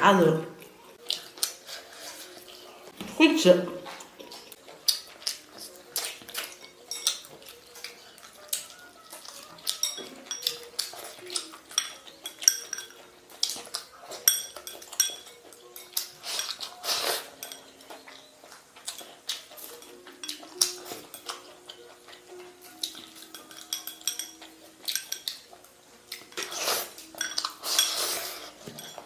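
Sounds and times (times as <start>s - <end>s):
chopsticks clinking against bowls: 4.3s - 29.0s.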